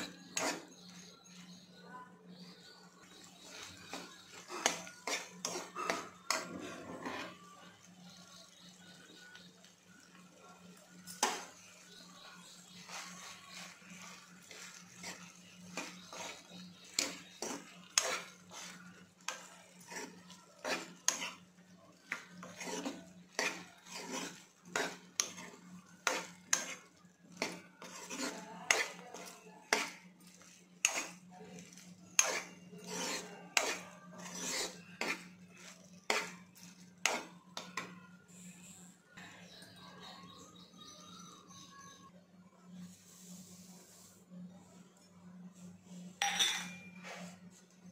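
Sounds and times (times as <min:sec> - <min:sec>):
spoon scraping a pan: 0:00.0 - 0:01.6, 0:02.4 - 0:38.8, 0:45.6 - 0:47.6.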